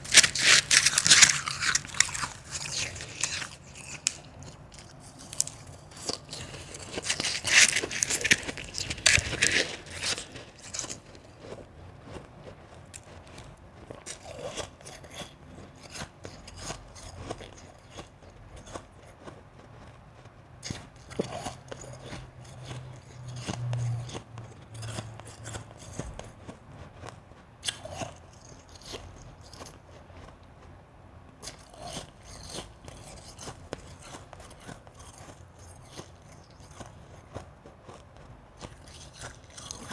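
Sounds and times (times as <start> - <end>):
crunching ice in the mouth: 0.0 - 20.0, 20.6 - 26.6, 27.6 - 30.4, 31.4 - 39.9.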